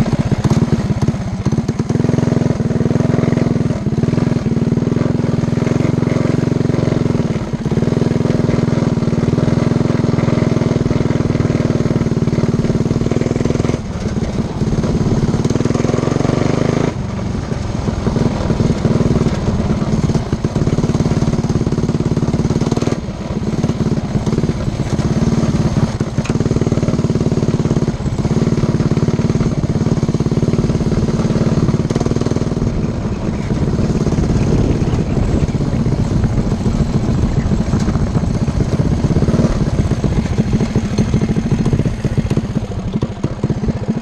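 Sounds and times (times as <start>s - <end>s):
mini bike engine droning: 0.0s - 44.0s.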